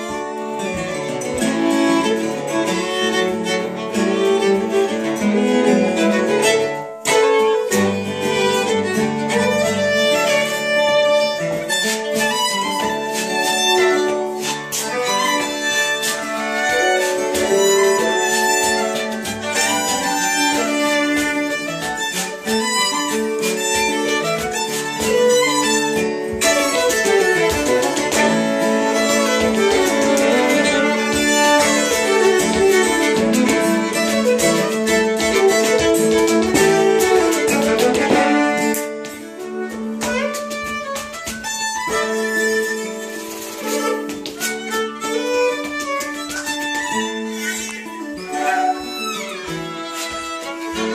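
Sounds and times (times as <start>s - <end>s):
fiddles playing a tune: 0.0s - 50.9s
strummed acoustic guitar: 0.0s - 50.9s.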